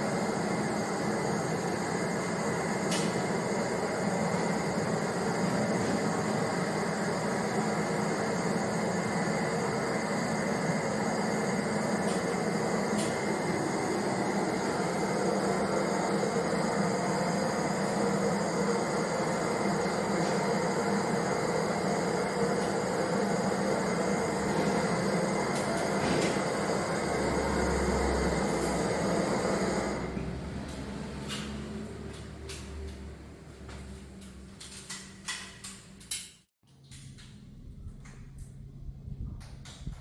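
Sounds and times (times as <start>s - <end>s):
machinery humming: 0.0s - 33.4s.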